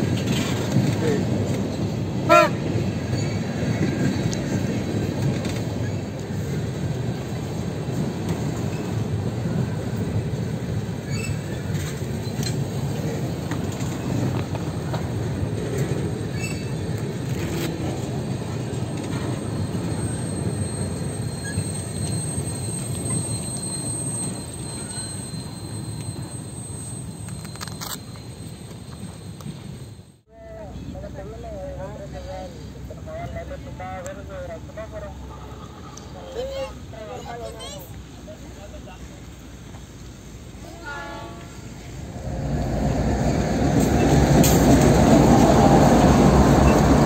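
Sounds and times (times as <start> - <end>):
train wheels rumbling on rail: 0.0 - 30.2, 30.8 - 47.0.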